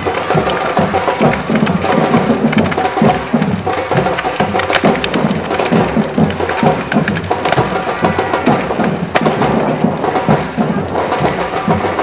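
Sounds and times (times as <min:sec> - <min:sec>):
firework fountains crackling: 0:00.0 - 0:11.9
drum band playing: 0:00.0 - 0:12.0.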